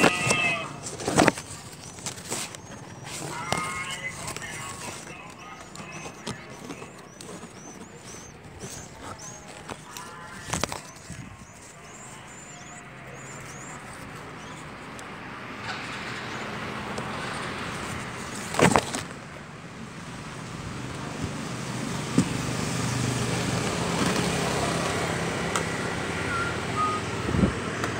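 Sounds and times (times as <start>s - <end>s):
vehicle engine humming: 0.0s - 27.9s.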